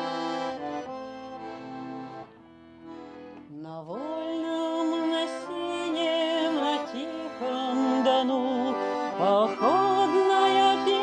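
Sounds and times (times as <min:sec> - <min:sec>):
accordion folk music: 0:00.0 - 0:11.0.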